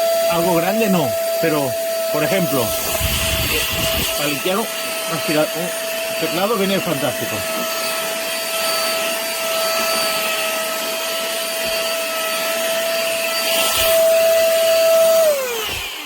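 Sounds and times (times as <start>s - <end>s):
handheld vacuum cleaner running: 0.0s - 16.0s
vacuum motor winding down: 0.0s - 16.0s.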